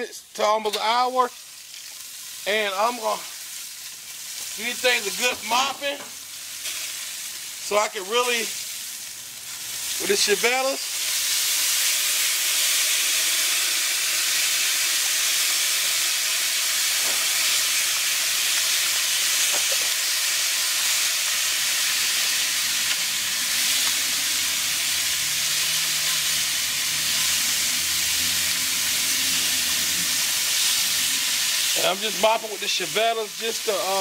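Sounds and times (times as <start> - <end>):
chicken sizzling on grill: 0.0 - 34.0.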